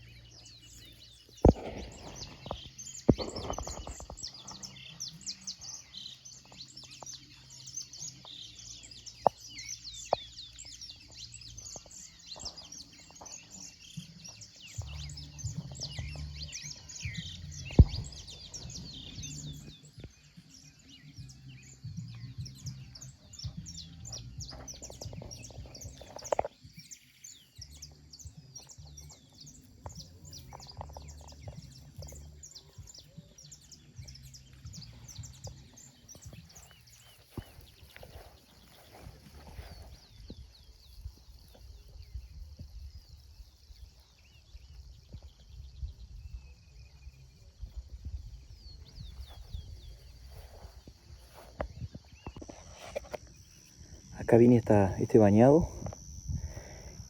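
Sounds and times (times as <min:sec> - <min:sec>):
many birds chirping: 0:00.0 - 0:57.0.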